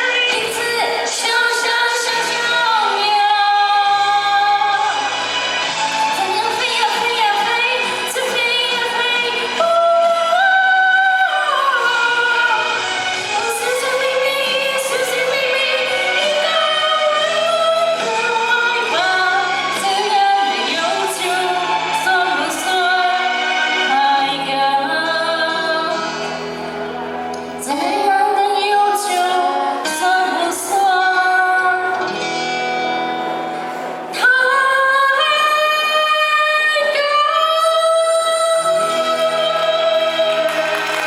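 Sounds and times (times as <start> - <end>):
woman singing: 0.0 - 26.5, 27.6 - 32.2, 34.1 - 41.0.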